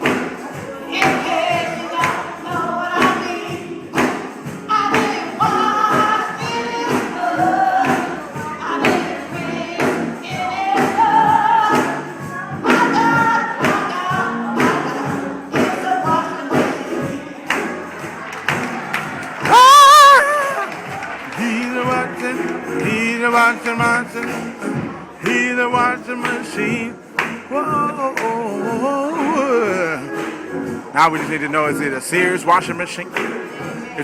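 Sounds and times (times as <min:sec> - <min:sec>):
gospel singing: 0:00.0 - 0:34.0.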